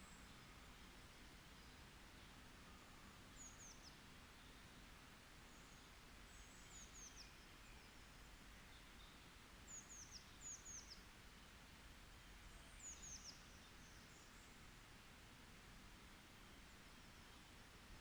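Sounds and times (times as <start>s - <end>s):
soft steady hiss: 0.0s - 18.0s.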